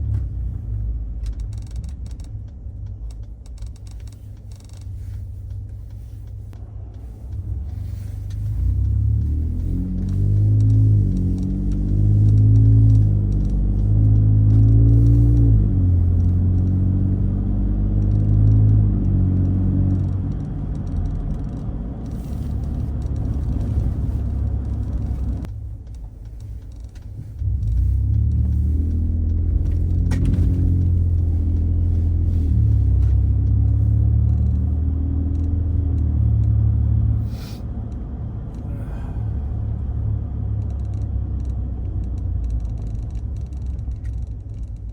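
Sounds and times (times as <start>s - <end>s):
pickup truck exhaust accelerating: 0.0s - 44.9s.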